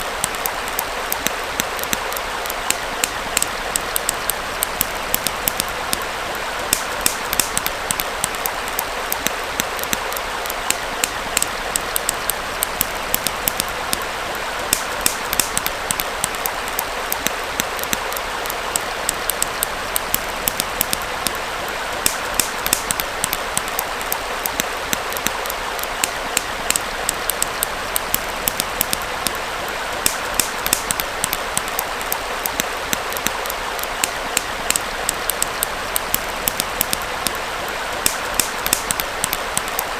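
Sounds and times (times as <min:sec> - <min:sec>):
campfire crackling and popping: 0:00.0 - 0:39.9
stream flowing: 0:00.0 - 0:39.9.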